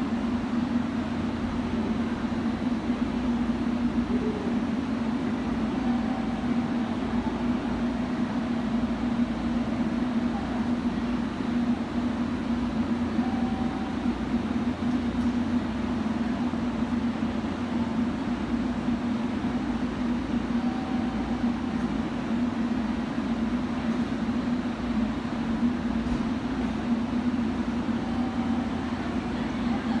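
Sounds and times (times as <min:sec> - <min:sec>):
electric train humming: 0:00.0 - 0:30.0.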